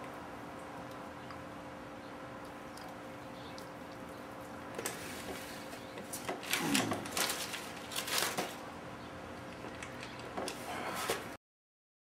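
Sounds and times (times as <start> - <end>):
faint hum: 0.0 - 11.4.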